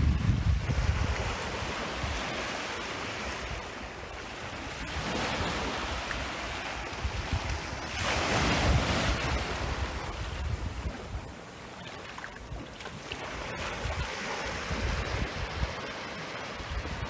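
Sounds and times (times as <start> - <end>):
small waves washing onto beach: 0.0 - 17.0.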